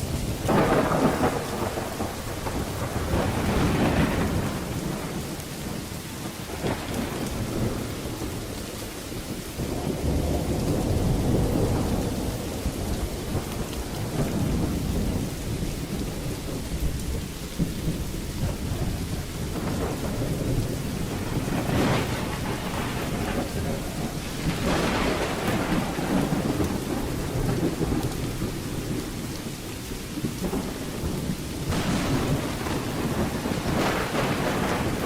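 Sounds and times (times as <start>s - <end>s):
rain falling: 0.0s - 35.0s
rolling thunder: 0.0s - 35.0s.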